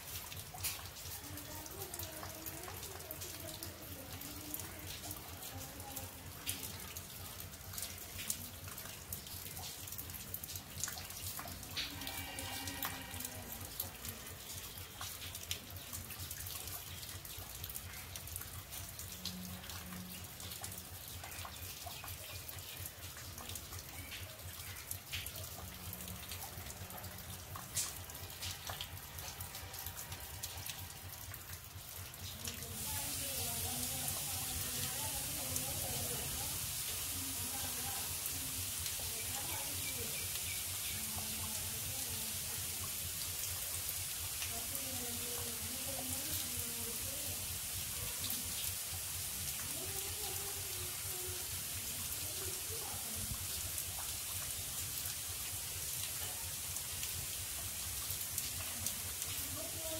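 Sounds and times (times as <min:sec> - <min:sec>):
rainwater pouring off a terrace: 0:00.0 - 0:59.9
water drips clicking: 0:00.0 - 0:59.9.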